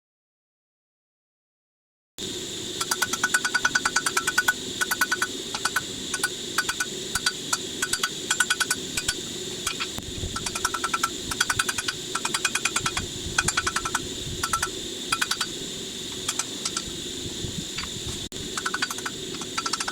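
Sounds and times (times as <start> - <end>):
steady hum: 2.2 - 19.9.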